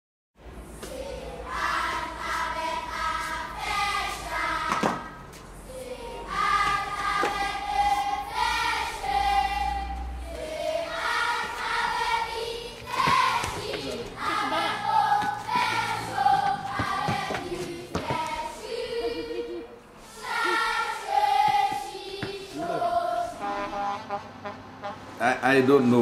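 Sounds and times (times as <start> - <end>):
choir singing: 0.6 - 24.1.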